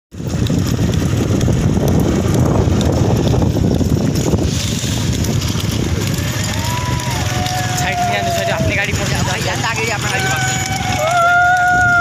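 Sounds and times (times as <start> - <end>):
vehicle running noise: 0.1 - 12.0
wind buffeting microphone: 0.1 - 12.0.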